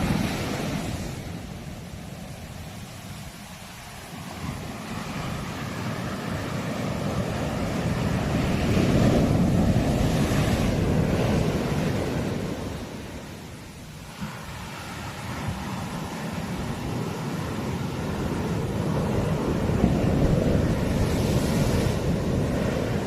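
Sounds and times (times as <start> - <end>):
sea waves breaking: 0.0 - 23.0
wind on microphone: 0.0 - 23.0.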